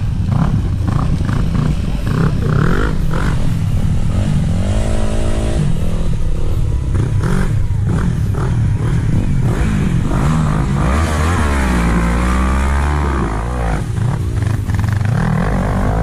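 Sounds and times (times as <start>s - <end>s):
quad engine revving: 0.0s - 16.0s.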